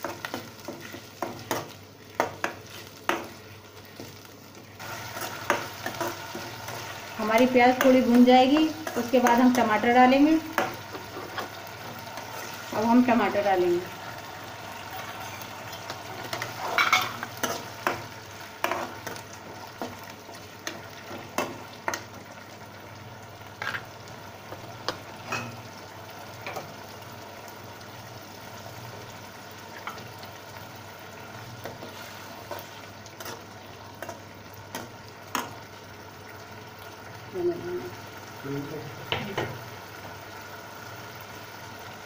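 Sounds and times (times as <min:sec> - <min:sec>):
onions sizzling in oil: 0:00.0 - 0:42.0.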